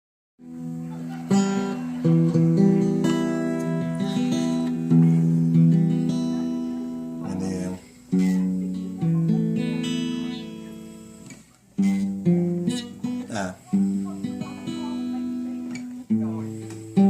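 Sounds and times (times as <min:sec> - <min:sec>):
guitar chords strummed: 0:00.4 - 0:17.0.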